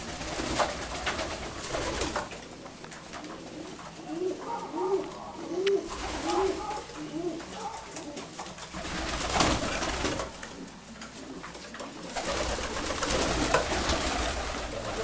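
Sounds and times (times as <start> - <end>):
birds scuffling: 0.0 - 15.0
pigeons cooing: 0.0 - 15.0
wing flutters: 0.0 - 15.0.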